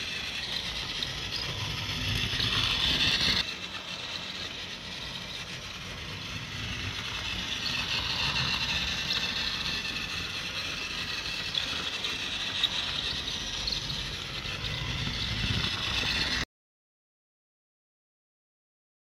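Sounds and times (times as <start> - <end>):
toy train motor whirring: 0.0 - 16.4
wheels rattling on plastic track: 0.0 - 16.4.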